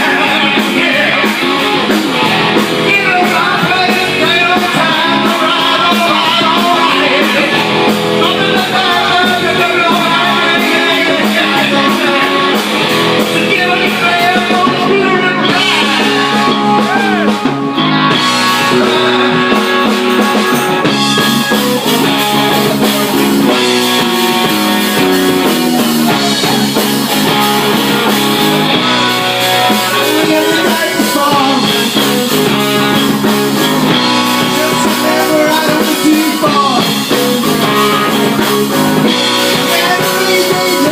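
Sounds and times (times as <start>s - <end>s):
electric guitar: 0.0s - 40.9s
person singing: 0.0s - 40.9s
rock band playing: 0.0s - 40.9s.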